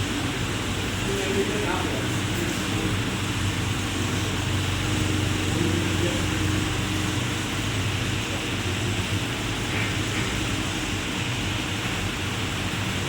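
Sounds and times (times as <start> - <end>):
industrial furnace humming: 0.0 - 13.0.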